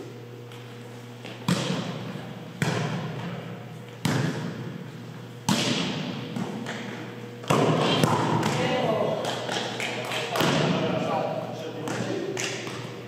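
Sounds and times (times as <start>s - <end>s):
volleyball hits echoing: 1.2s - 4.8s, 5.4s - 13.0s.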